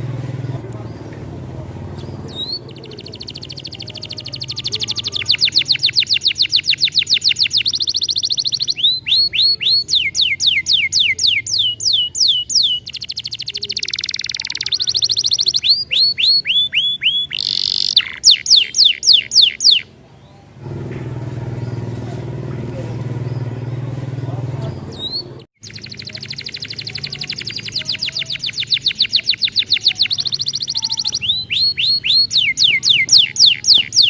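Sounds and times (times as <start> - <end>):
canary singing rapid trills: 1.9 - 20.3, 24.6 - 34.0.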